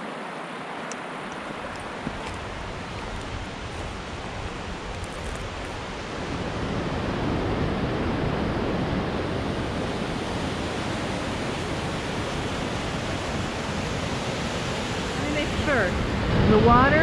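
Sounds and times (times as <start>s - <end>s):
whitewater rushing through gorge: 0.0s - 17.0s.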